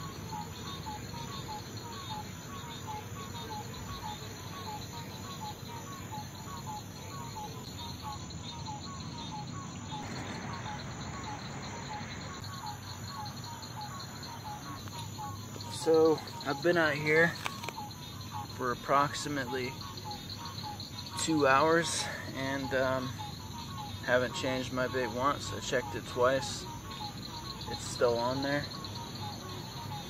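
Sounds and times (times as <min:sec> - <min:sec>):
crickets and katydids trilling: 0:00.0 - 0:30.0.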